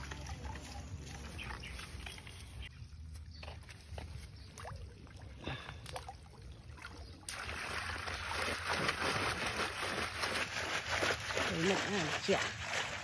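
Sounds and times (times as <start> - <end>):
pond water splashing: 0.0 - 13.0.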